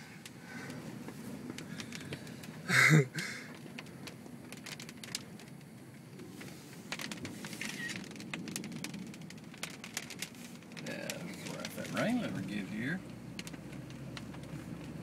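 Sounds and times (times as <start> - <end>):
low wind rumble: 0.0 - 15.0
sand and rain pattering on truck: 0.0 - 15.0.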